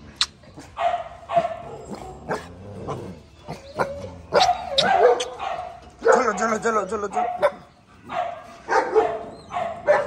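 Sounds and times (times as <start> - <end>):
puppies barking and yipping: 0.5 - 10.0.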